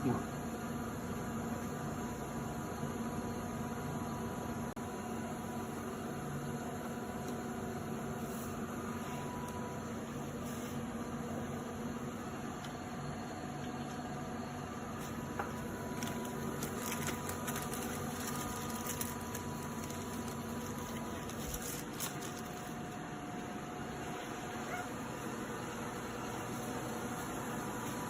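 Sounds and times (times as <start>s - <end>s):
machine hum and hiss: 0.0s - 28.0s.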